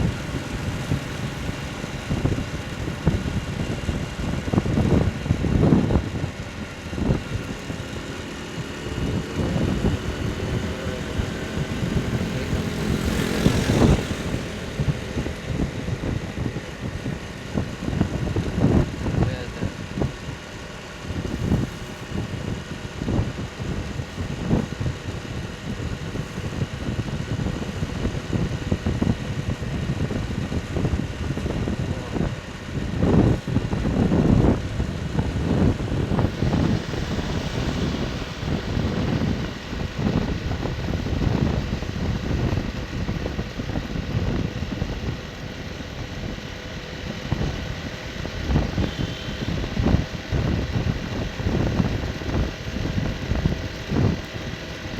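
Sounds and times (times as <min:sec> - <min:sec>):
motorcycle engine: 0:00.0 - 0:54.9
wind buffeting microphone: 0:00.0 - 0:54.9.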